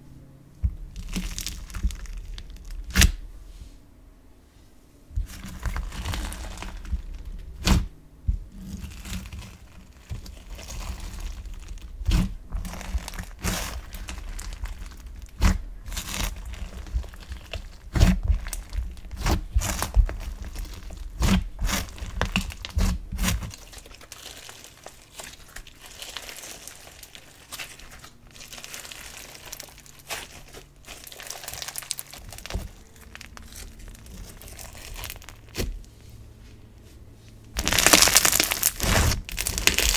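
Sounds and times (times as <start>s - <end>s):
slime crackling and popping: 0.8s - 3.2s, 5.2s - 7.9s, 8.5s - 35.8s, 37.5s - 39.9s.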